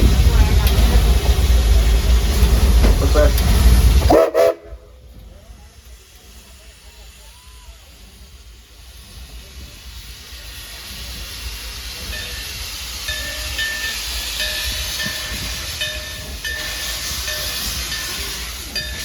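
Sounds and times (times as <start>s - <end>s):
locomotive rumble: 0.0s - 19.0s
steam hissing: 0.0s - 19.0s.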